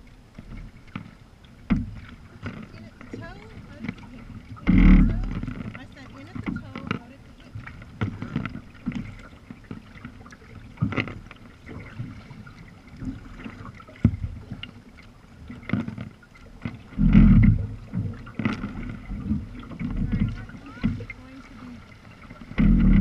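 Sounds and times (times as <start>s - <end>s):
low rumble of water and wind: 0.0s - 23.0s
paddle strokes splashing: 0.0s - 23.0s
water slapping hull: 0.0s - 23.0s.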